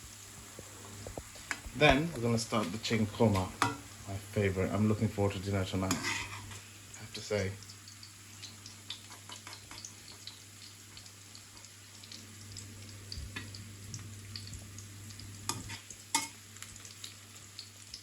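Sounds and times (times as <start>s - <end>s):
onions sizzling in a pan: 0.0s - 18.0s.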